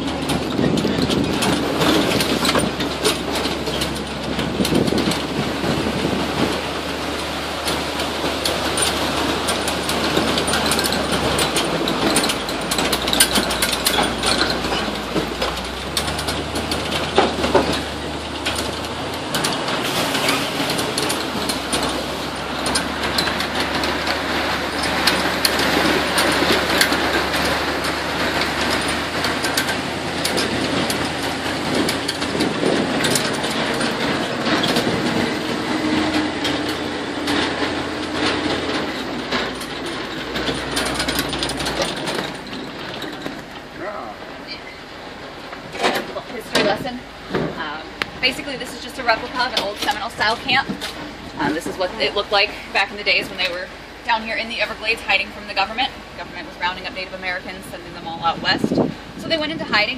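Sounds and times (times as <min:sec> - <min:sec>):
buggy engine running: 0:00.0 - 0:59.9
vehicle frame rattling: 0:00.0 - 0:59.9.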